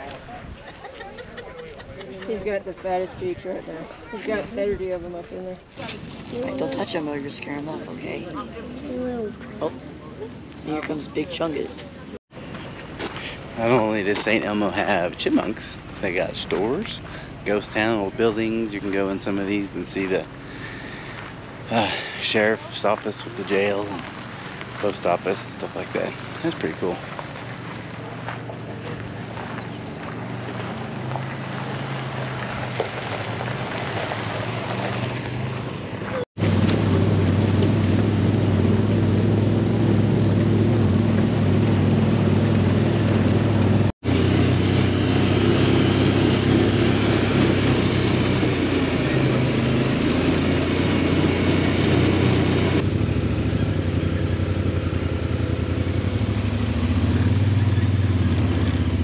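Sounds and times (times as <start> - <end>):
utility vehicle engine droning: 0.0 - 59.0.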